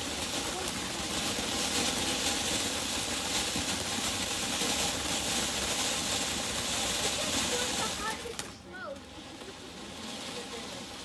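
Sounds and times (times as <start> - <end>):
fountain firework hissing: 0.0 - 11.0.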